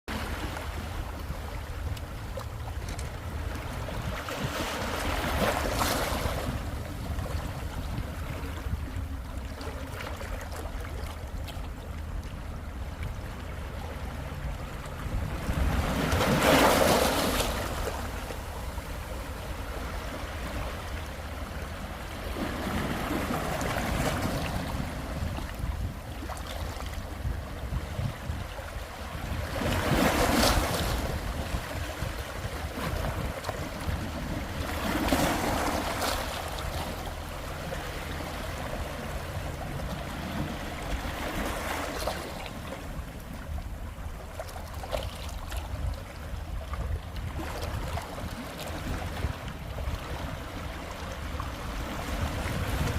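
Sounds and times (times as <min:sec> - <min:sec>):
sea waves breaking on shore: 0:00.1 - 0:52.9
wind rumble on microphone: 0:00.1 - 0:52.9.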